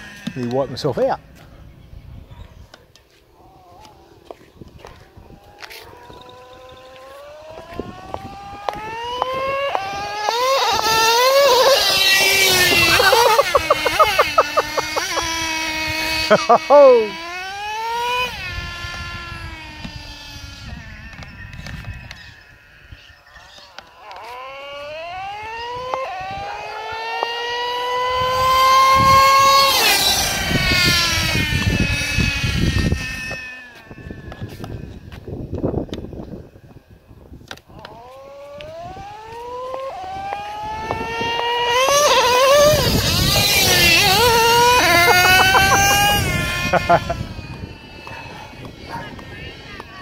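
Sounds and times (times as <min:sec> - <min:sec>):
wind on microphone: 0:03.3 - 0:16.5, 0:17.5 - 0:23.6, 0:25.0 - 0:50.0
model truck engine at high revs: 0:04.8 - 0:36.3, 0:37.4 - 0:49.9.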